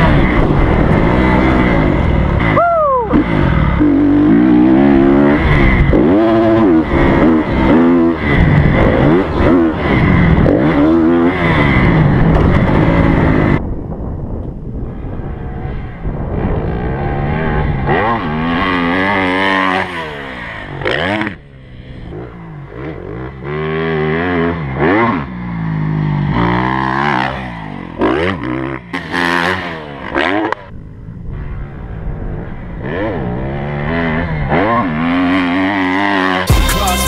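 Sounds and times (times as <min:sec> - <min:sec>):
motocross bike engine revving: 0:00.0 - 0:13.6, 0:15.0 - 0:37.0.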